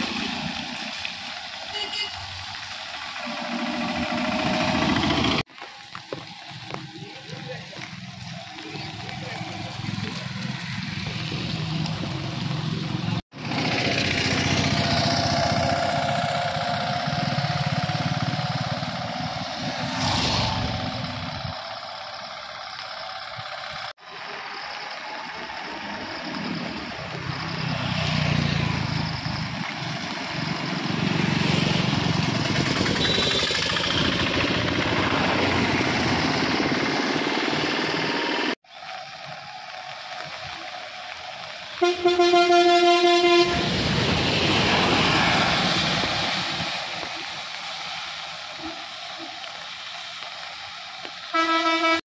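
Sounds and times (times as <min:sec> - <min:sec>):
vehicle engines passing: 0:00.0 - 0:50.9
tyres hissing on wet road: 0:00.0 - 0:52.0.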